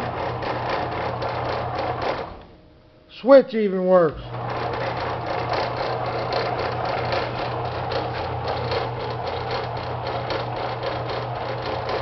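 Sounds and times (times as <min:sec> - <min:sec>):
fast mechanical clatter: 0:00.0 - 0:02.5, 0:04.3 - 0:12.0
electric motor humming: 0:00.0 - 0:02.6, 0:04.2 - 0:12.0.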